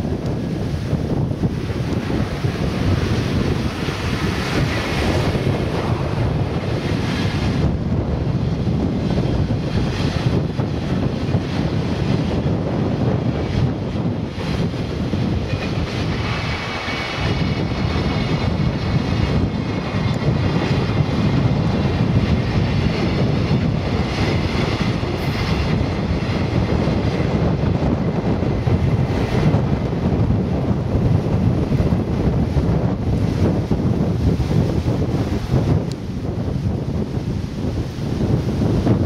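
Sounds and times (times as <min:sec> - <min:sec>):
train wheels rumbling on rail: 0:00.0 - 0:39.0
wind buffeting microphone: 0:00.0 - 0:39.0.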